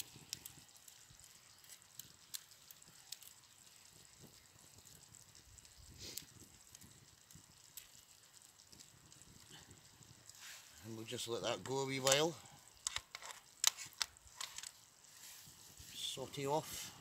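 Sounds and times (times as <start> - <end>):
sauce simmering in a frying pan: 0.0 - 17.0.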